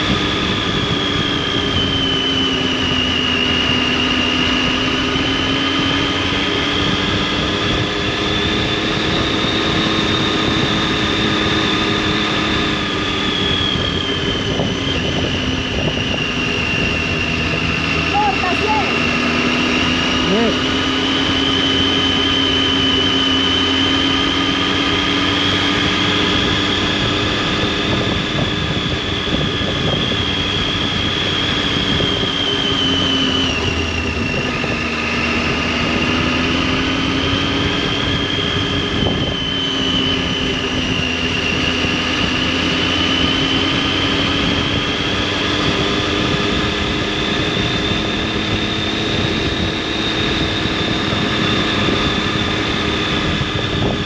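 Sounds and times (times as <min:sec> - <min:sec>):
high engine whine: 0:00.0 - 0:54.0
motorcycle engine and exhaust: 0:00.0 - 0:54.0.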